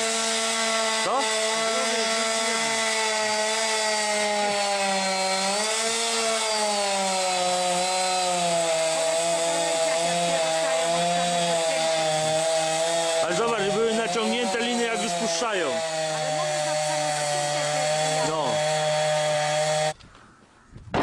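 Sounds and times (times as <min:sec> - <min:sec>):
chainsaw cutting tree trunk: 0:00.0 - 0:20.0.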